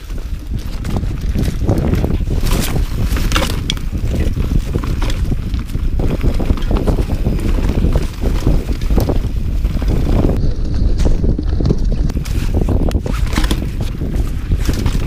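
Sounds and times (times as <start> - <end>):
bike rattling and clattering: 0.0 - 15.0
tyres rolling over dirt: 0.0 - 15.0
wind rumble on microphone: 0.0 - 15.0.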